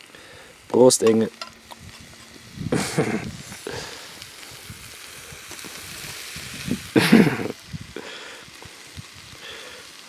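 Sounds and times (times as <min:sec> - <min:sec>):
bacon frying in a pan: 0:00.0 - 0:10.0.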